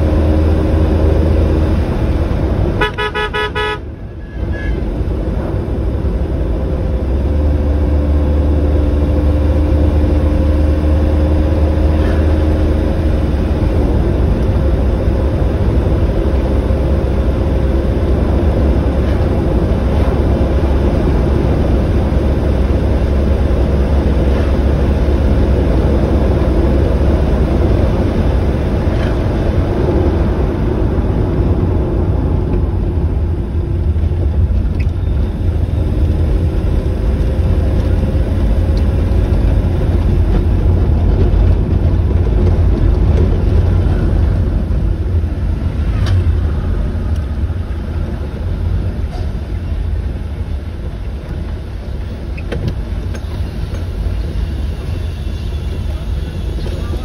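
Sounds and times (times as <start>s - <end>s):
faint engine hum: 0.0s - 57.0s
vehicle engine and road rumble: 0.0s - 57.0s.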